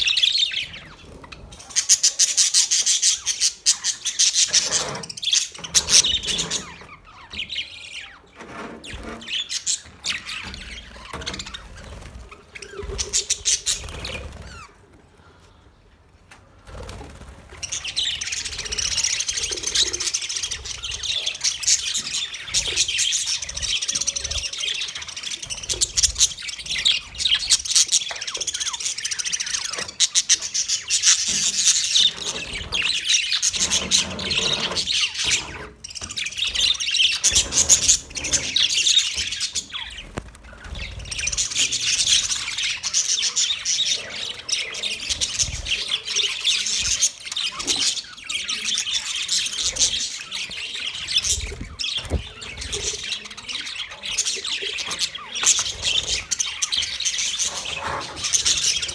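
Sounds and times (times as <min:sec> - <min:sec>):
budgerigars chirping and chattering: 0:00.0 - 0:14.9, 0:16.7 - 0:58.9.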